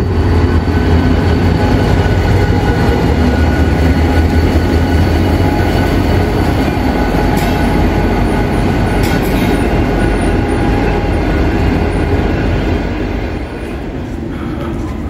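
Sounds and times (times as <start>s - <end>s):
diesel locomotive droning: 0.0s - 15.0s.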